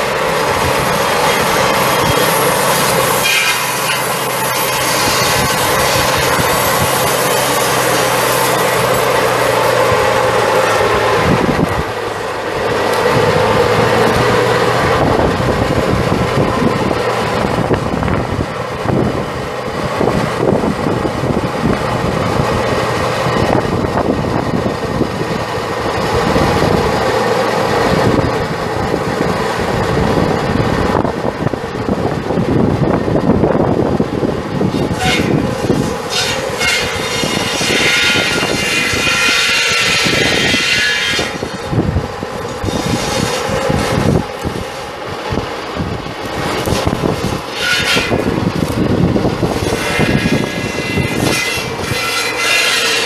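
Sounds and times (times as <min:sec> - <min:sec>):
tractor diesel engine rattling: 0:00.0 - 0:53.0.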